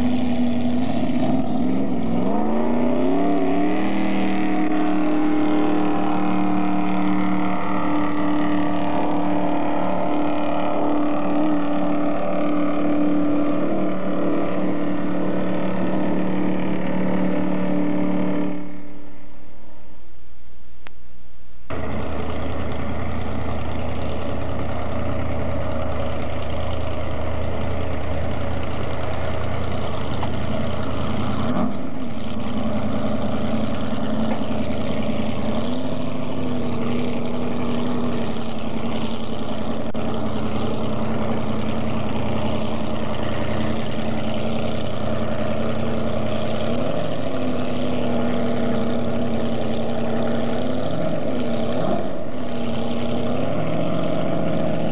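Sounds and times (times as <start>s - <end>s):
boat engine running: 0.0s - 19.8s, 21.7s - 54.9s.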